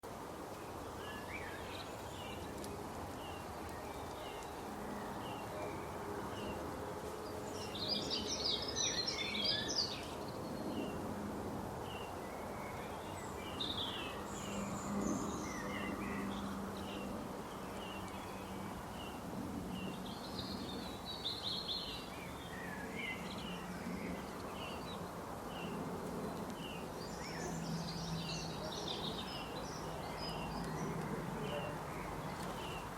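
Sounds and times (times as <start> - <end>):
birds twittering rapidly: 0.2 - 32.9.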